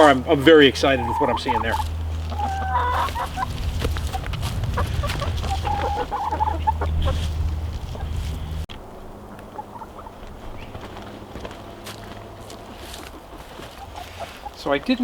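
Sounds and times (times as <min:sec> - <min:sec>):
steady low rumble: 0:00.0 - 0:14.5
chickens clucking: 0:00.0 - 0:15.0.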